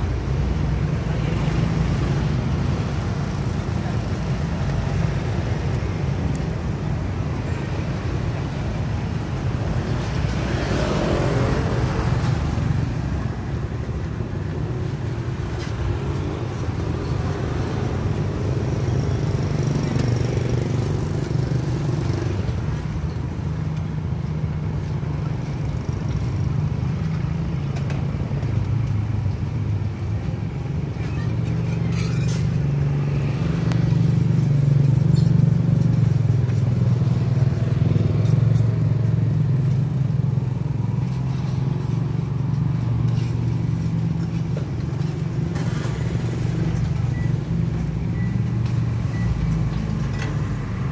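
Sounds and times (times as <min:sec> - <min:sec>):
street traffic: 0:00.0 - 0:50.9.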